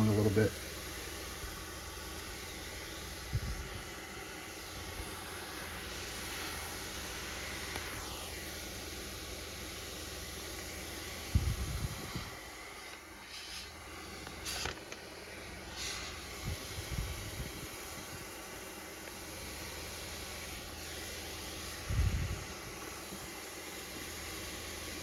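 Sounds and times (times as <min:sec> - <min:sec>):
steamer hissing: 0:00.0 - 0:25.0.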